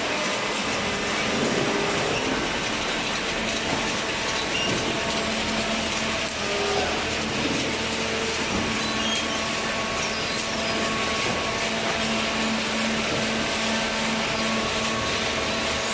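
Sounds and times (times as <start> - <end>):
hydraulic baler running: 0.0 - 15.9.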